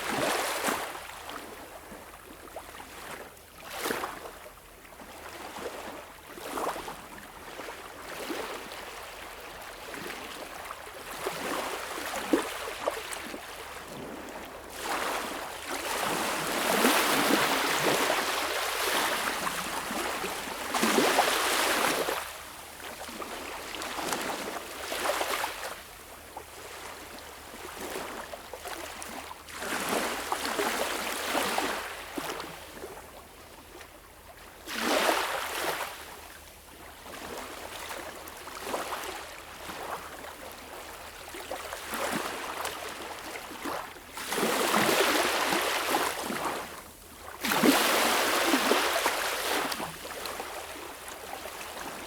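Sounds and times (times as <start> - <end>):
small waves washing on beach: 5.4 - 32.9, 37.0 - 52.0.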